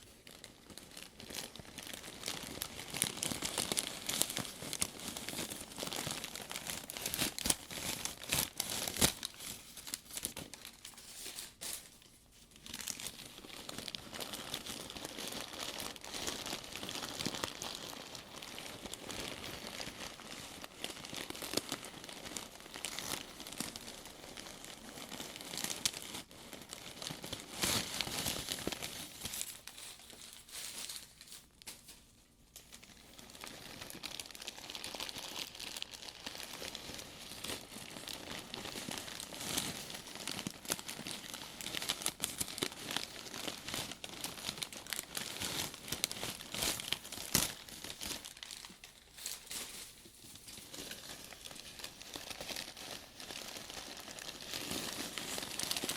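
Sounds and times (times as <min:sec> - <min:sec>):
crumpled paper crinkling: 0:00.0 - 0:55.9.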